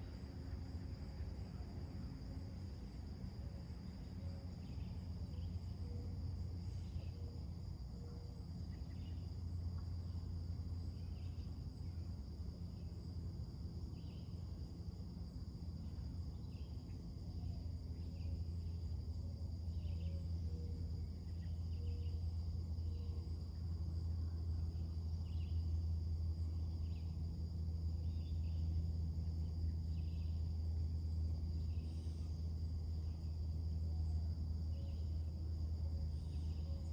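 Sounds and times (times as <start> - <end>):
crickets and insects droning: 0.0 - 36.9.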